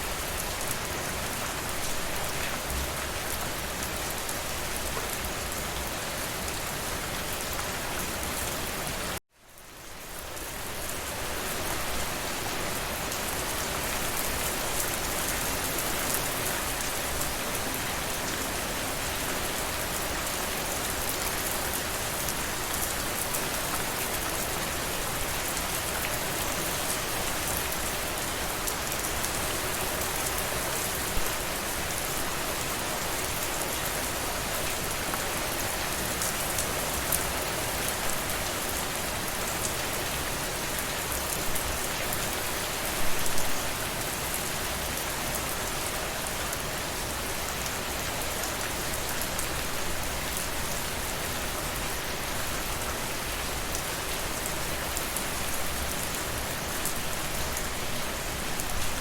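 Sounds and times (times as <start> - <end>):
rain hissing on a surface: 0.0 - 59.0.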